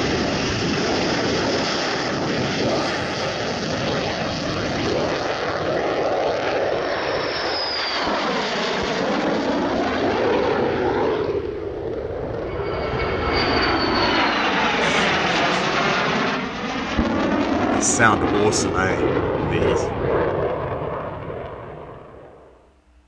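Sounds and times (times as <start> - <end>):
jet engines roaring: 0.0 - 22.6.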